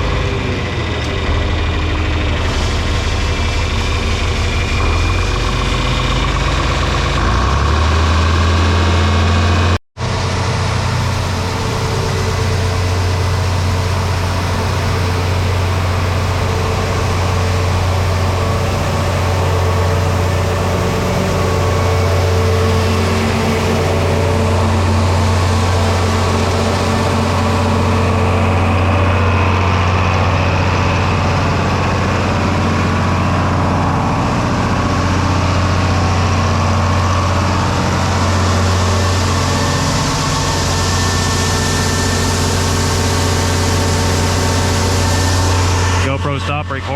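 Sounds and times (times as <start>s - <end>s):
tractor diesel engine idling: 0.0s - 46.9s.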